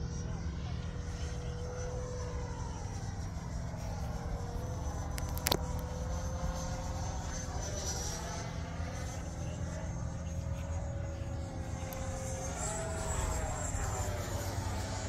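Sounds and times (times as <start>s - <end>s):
electric ducted fan jet whine: 0.0s - 15.0s.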